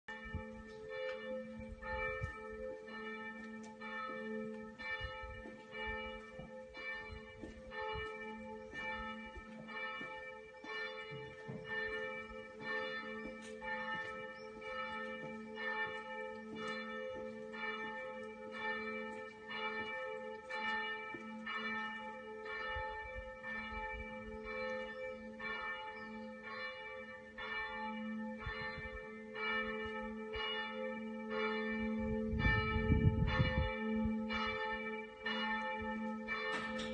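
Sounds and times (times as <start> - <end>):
church bells ringing: 0.1 - 36.9.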